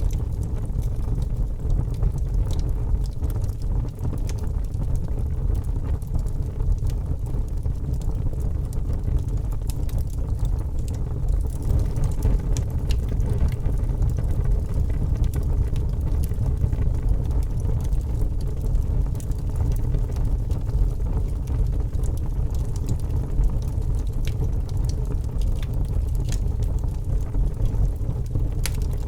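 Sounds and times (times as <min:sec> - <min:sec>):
fire crackling in fireplace: 0:00.0 - 0:29.0.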